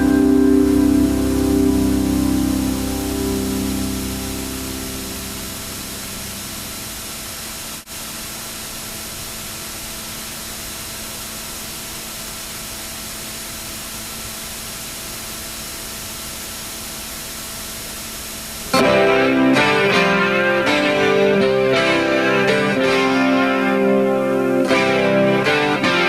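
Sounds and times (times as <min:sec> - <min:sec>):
steady static hiss: 0:00.0 - 0:26.0.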